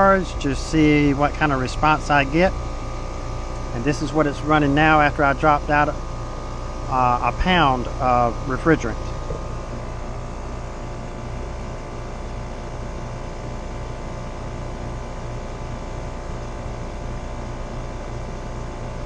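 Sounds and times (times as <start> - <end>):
air conditioning unit humming: 0.0 - 19.0.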